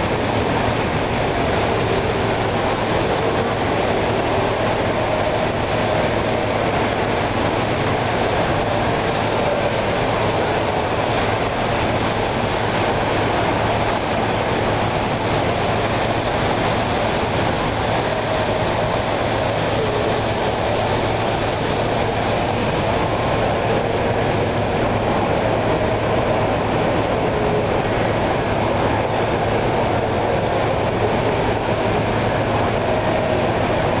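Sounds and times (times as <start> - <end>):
model trains rumbling on track: 0.0 - 34.0.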